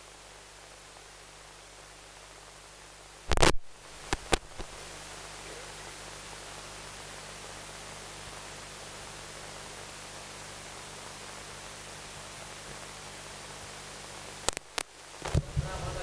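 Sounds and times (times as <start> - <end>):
low electrical hum: 0.0 - 16.0
steady hiss: 0.0 - 16.0.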